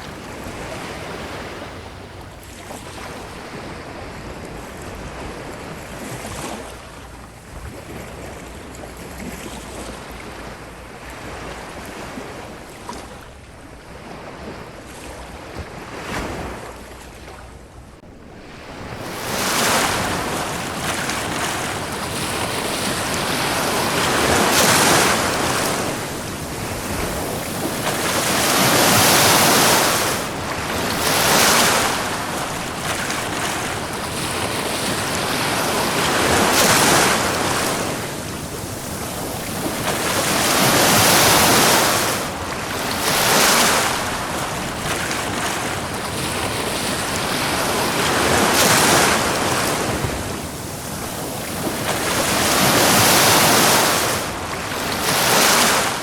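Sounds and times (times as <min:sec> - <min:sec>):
ocean waves breaking on beach: 0:00.0 - 0:56.0
wind: 0:00.0 - 0:56.0.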